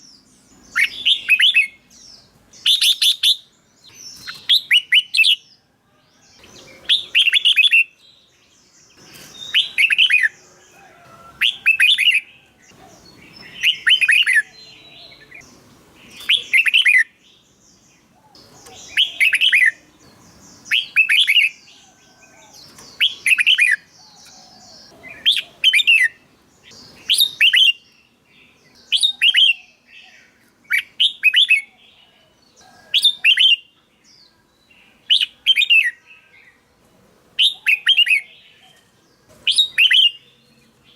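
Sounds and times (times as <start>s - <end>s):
bulbul singing whistled song: 0.0s - 36.6s, 37.4s - 40.9s.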